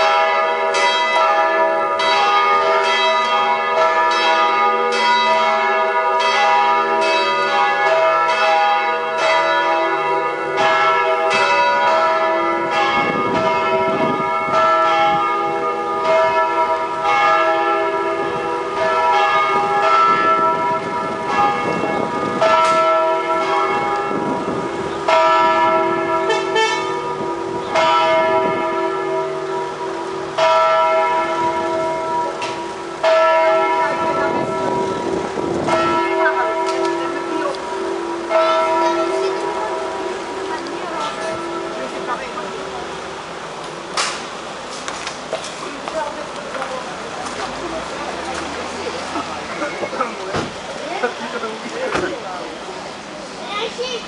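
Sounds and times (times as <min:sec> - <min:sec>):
church bells ringing: 0:00.0 - 0:44.7, 0:45.7 - 0:50.3.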